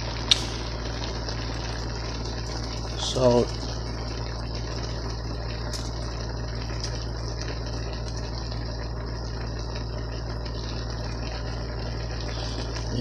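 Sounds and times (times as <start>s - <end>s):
chicken sizzling in a pot: 0.0s - 13.0s
steady low hum: 0.0s - 13.0s.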